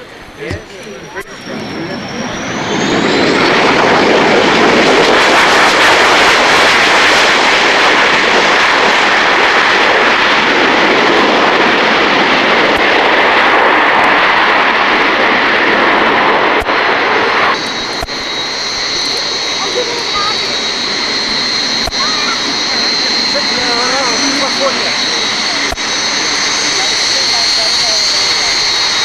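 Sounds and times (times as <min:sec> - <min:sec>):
high-pitched jet whine: 0:00.0 - 0:29.0
jet engines roaring: 0:00.0 - 0:29.0.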